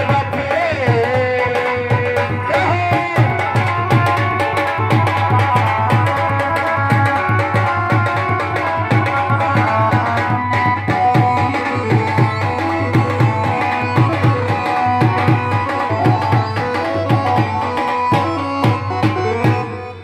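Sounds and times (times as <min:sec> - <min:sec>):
dholak drum rhythm: 0:00.0 - 0:20.0
sustained melody line: 0:00.0 - 0:20.0.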